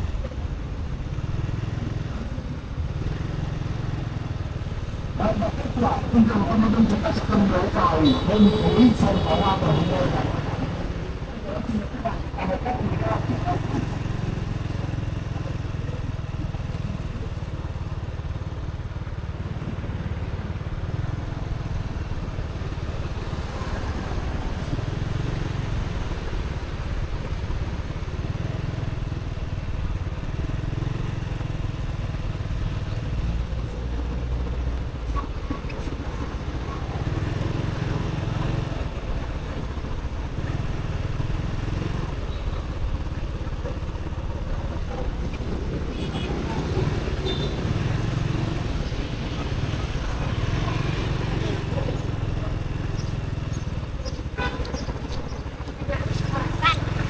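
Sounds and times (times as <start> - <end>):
motorbike engine: 0.0 - 57.0.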